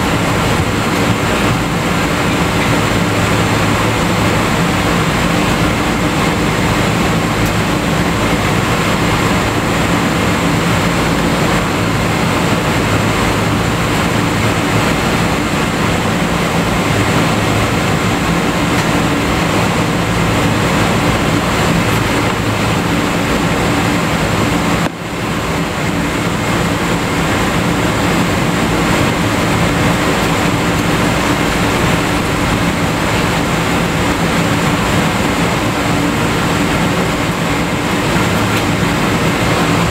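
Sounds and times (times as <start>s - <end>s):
airframe rumble and wheels rolling: 0.0s - 39.9s
jet engines idling: 0.0s - 39.9s.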